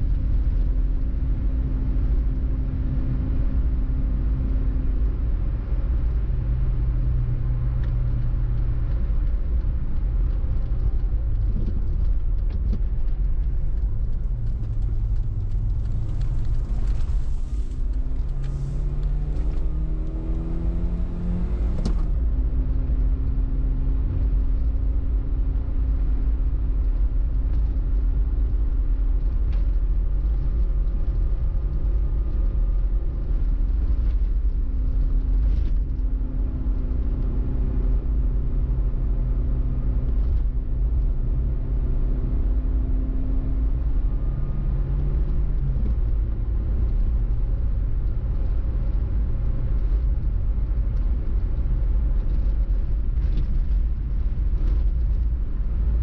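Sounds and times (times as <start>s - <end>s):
car engine: 0.0s - 27.0s, 29.0s - 56.0s
road rumble: 0.0s - 56.0s.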